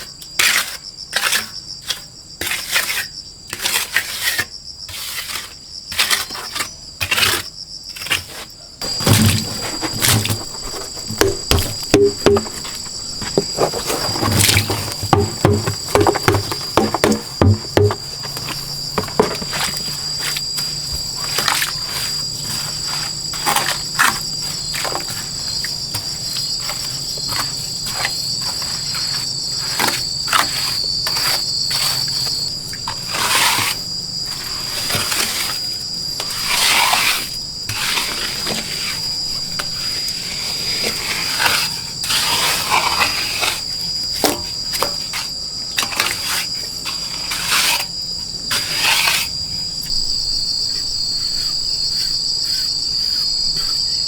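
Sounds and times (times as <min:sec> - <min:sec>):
insects trilling: 0:00.0 - 0:54.0
rustling or scraping: 0:08.0 - 0:49.4, 0:50.6 - 0:54.0.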